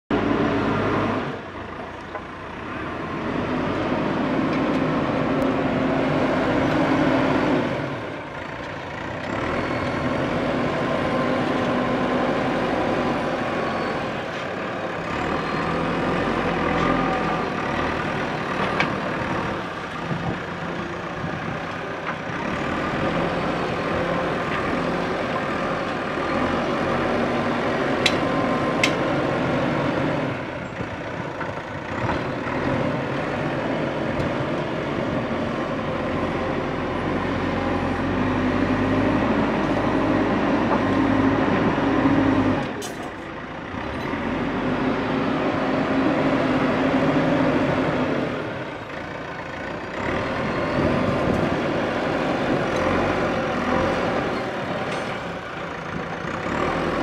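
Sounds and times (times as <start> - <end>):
backhoe diesel engine under load: 0.1 - 57.0.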